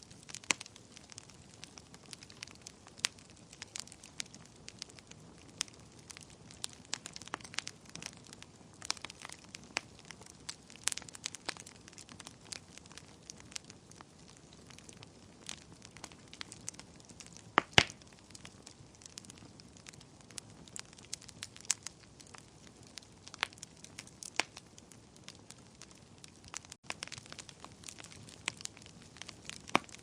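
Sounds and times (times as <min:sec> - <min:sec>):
wood fire crackling: 0:00.0 - 0:30.0
fire pops: 0:00.1 - 0:30.0.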